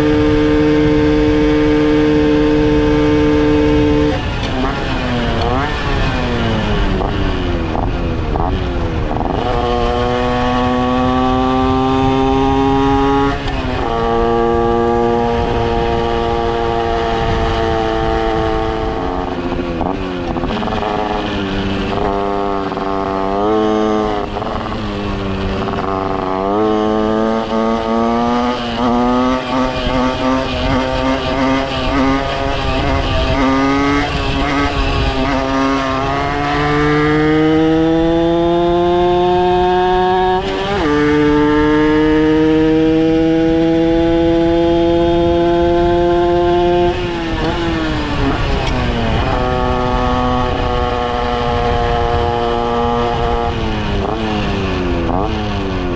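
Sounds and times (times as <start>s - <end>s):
low wind rumble: 0.0s - 55.9s
two-stroke moped engine revving: 0.0s - 55.9s.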